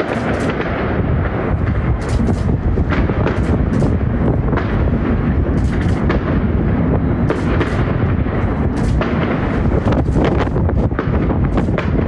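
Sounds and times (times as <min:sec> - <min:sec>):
firework shells booming: 0:00.0 - 0:12.0
sharp firework cracks: 0:00.0 - 0:12.0.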